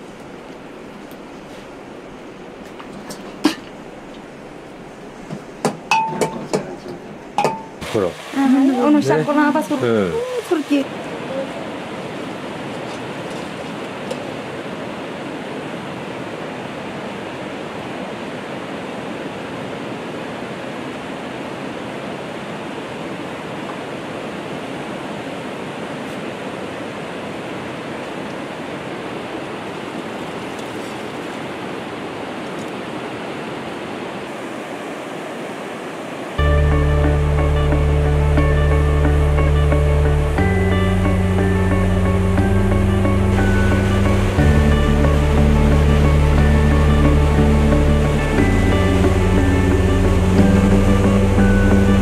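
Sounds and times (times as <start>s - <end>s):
river rushing: 0.0s - 52.0s.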